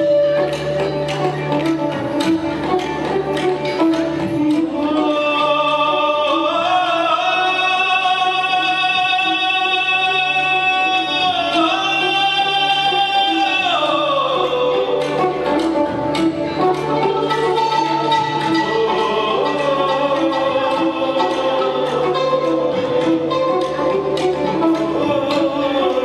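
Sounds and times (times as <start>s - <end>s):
light percussion: 0.0s - 26.0s.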